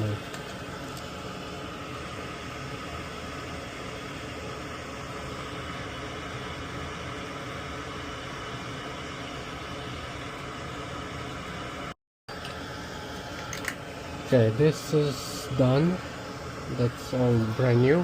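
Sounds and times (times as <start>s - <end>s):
fan whooshing: 0.0s - 18.0s.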